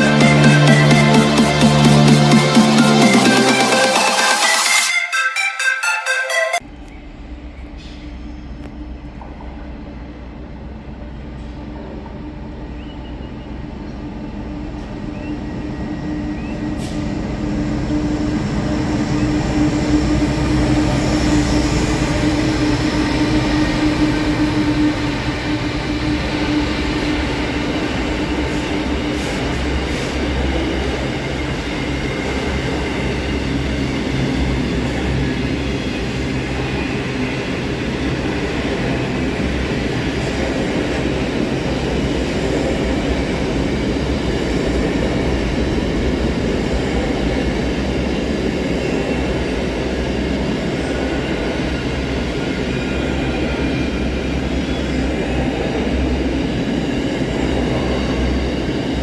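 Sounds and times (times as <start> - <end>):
diesel locomotive hum: 0.0 - 4.8, 6.6 - 59.0
rumble of train wagons: 6.6 - 59.0.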